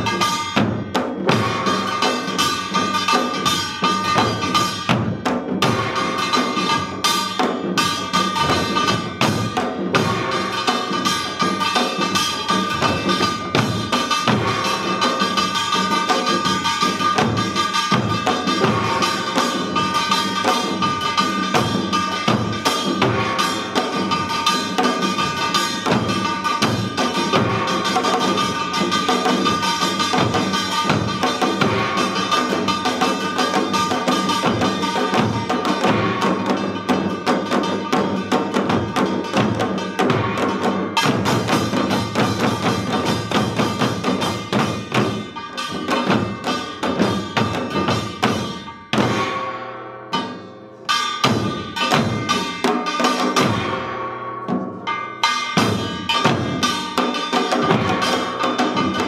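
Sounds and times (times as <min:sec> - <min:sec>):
hourglass drums beating: 0:00.0 - 0:59.0.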